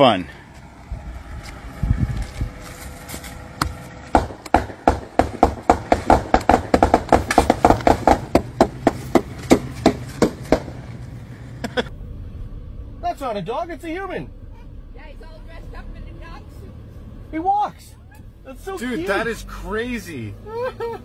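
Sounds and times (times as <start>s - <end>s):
car engine hum: 0.0s - 21.0s.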